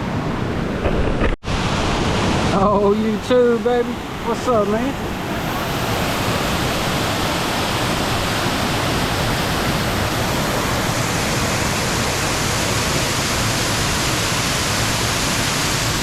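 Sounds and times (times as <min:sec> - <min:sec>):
waterfall crashing: 0:01.5 - 0:16.0.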